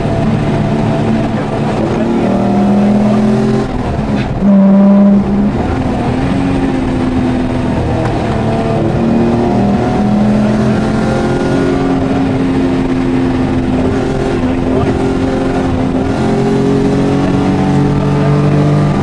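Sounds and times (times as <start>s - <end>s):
car engine pulling hard: 0.0s - 19.0s.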